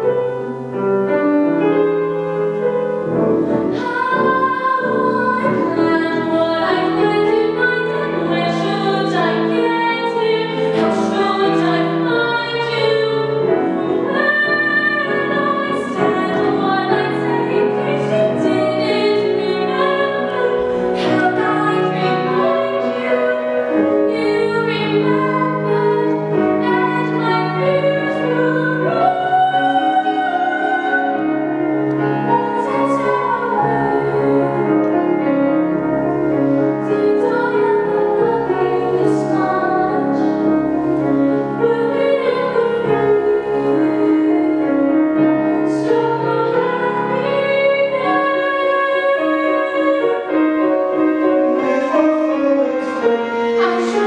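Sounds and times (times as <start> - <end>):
grand piano: 0.0 - 54.0
woman singing: 3.7 - 34.8, 36.8 - 40.8, 41.6 - 44.8, 45.5 - 50.6, 51.5 - 54.0.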